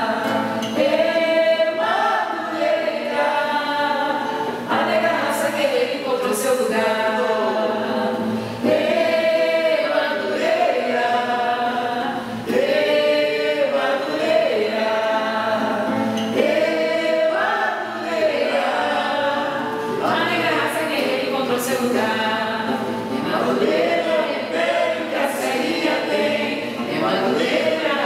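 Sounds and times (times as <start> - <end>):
group of people singing: 0.0 - 28.0
strummed acoustic guitar: 0.0 - 28.0.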